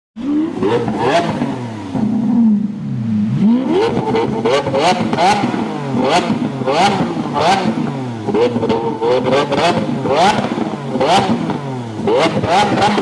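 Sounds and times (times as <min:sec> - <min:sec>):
car engine revving: 0:00.2 - 0:13.0
exhaust crack: 0:00.5 - 0:13.0.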